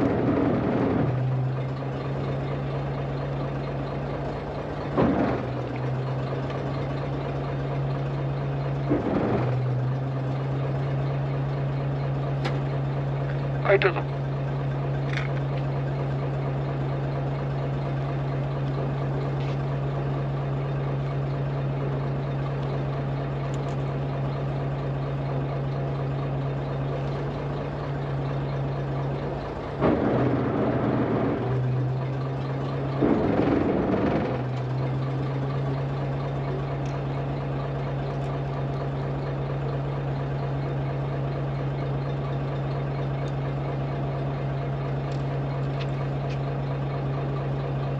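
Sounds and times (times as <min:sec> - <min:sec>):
boat engine idling: 0:00.0 - 0:47.9.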